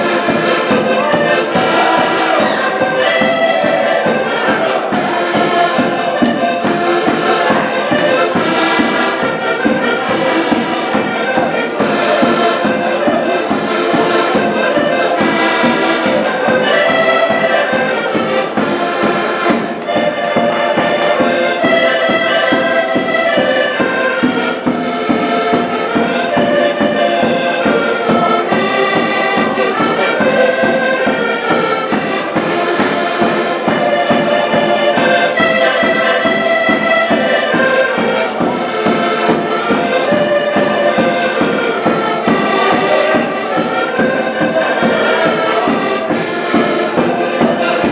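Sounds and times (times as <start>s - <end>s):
accordion ensemble playing: 0.0s - 47.9s.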